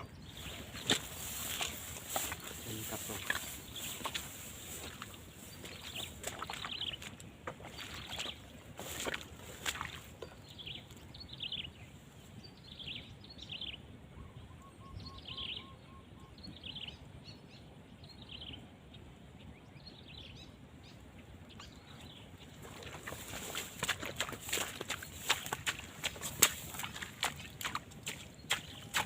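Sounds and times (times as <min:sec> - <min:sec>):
wild birds chirping: 0:00.0 - 0:29.0.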